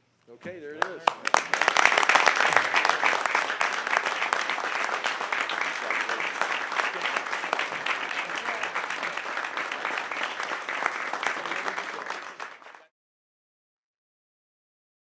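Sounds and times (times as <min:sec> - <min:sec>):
crowd applauding: 0:00.8 - 0:12.9.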